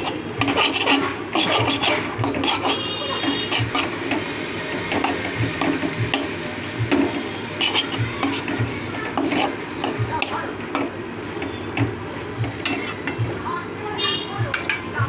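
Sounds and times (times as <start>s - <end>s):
metal spatula scraping cooking pan: 0.0s - 13.3s, 14.5s - 14.9s.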